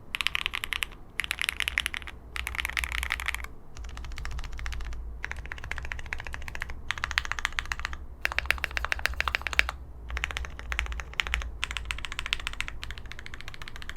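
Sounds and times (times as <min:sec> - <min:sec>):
fast typing on mechanical keyboard: 0:00.0 - 0:13.9.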